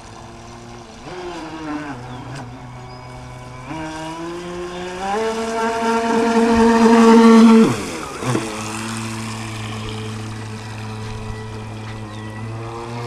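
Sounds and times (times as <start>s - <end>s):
model boat electric motor whine: 0.0s - 13.0s.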